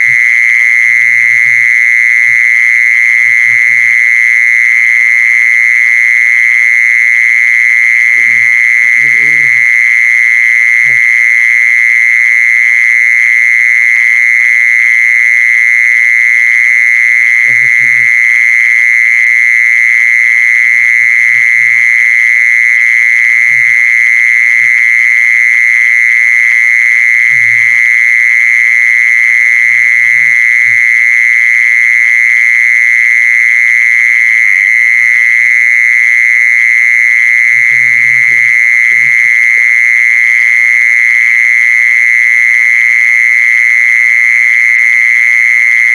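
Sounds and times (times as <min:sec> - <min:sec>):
insect high-pitched trill: 0:00.0 - 0:43.6.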